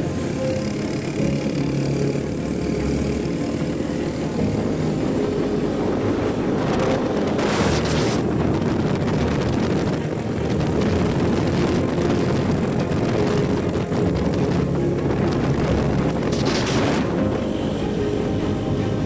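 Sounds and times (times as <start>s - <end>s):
vehicle engine running: 0.0s - 19.0s
wind noise on microphone: 0.0s - 19.0s.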